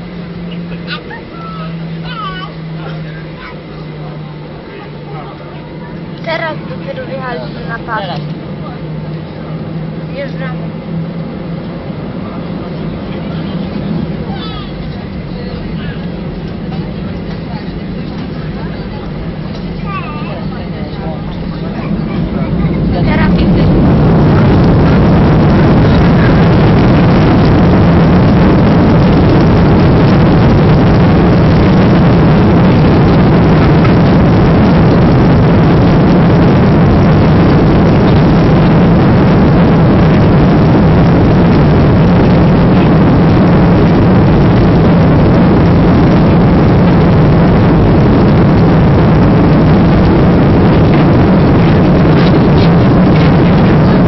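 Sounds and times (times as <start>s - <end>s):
jet engine roar in cabin: 0.0s - 54.0s
low hum and rumble: 0.0s - 54.0s.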